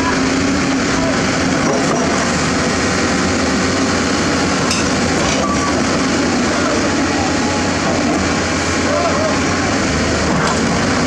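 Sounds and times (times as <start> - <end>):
heavy diesel engines droning: 0.0 - 11.0
truck labouring uphill: 0.0 - 11.0.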